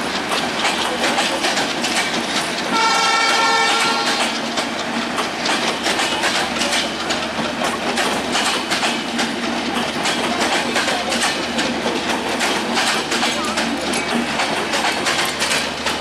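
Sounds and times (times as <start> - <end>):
train rumbling past: 0.0 - 16.0
train wheels clacking over rail joints: 0.0 - 16.0.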